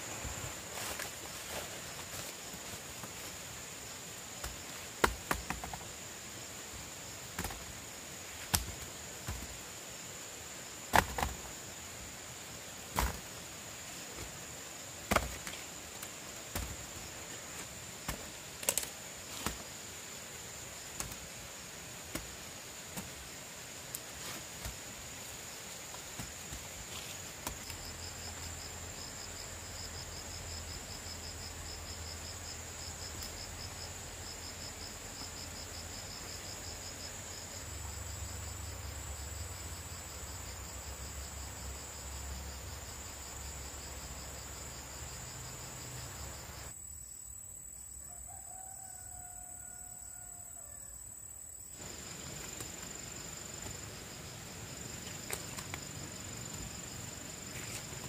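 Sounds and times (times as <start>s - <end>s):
cricket chirping: 0.0s - 58.0s.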